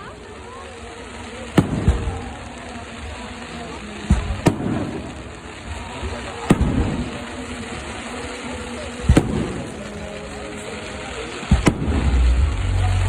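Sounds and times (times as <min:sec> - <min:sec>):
fireworks bursting with crackles: 0:00.0 - 0:13.0.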